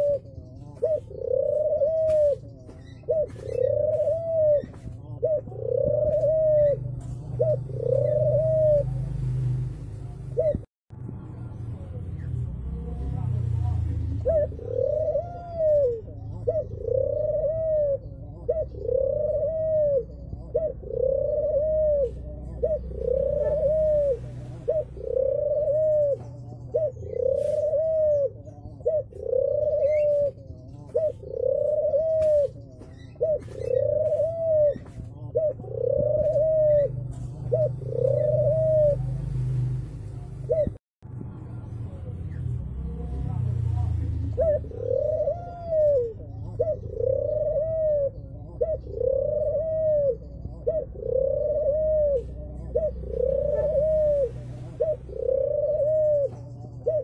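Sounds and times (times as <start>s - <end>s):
dove cooing: 0.0s - 10.7s, 12.2s - 40.8s, 41.9s - 57.0s.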